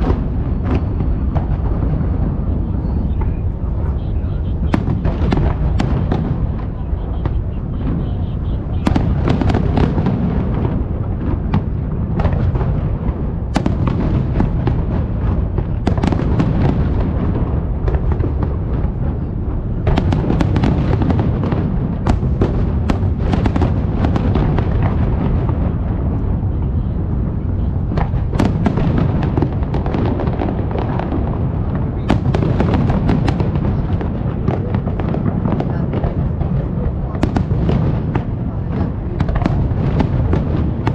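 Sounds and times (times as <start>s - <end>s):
fireworks cracking: 0.0s - 40.9s
low rumble of fireworks booms: 0.0s - 40.9s.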